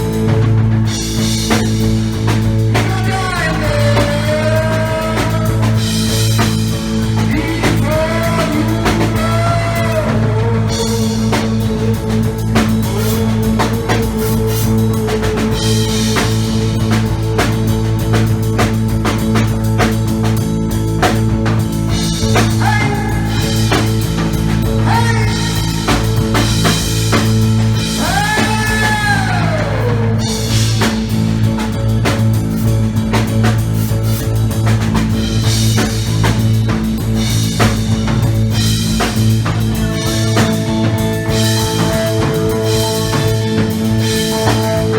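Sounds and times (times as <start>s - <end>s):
gliding pitched line: 0.0s - 44.9s
heavy drumming: 0.0s - 44.9s
rock band playing: 0.0s - 44.9s
steady low drone: 0.0s - 44.9s.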